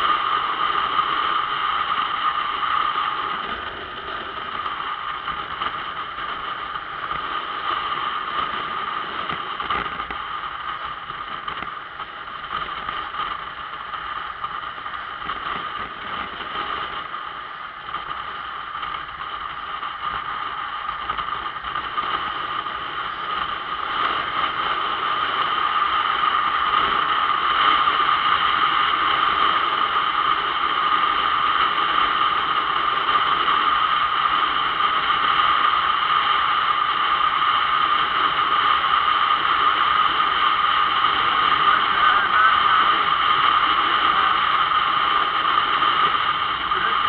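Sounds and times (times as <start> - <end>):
motorcycle engine: 0.0 - 35.0, 37.7 - 47.0
wind noise: 0.0 - 47.0.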